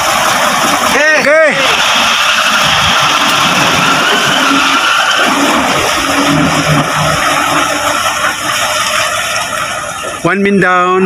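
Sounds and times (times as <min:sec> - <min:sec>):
lorry engine rushing noise: 0:00.0 - 0:10.2.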